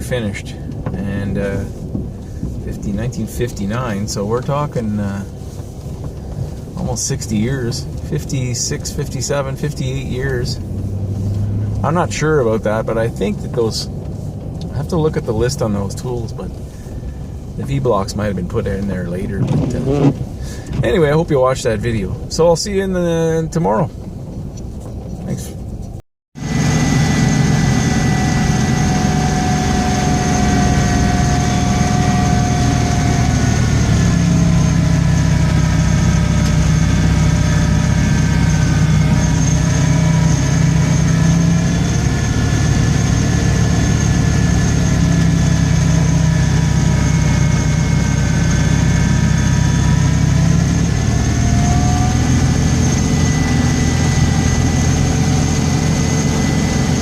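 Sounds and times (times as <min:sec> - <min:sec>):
engine running steadily: 0:00.0 - 0:57.0
faint whine: 0:00.0 - 0:57.0.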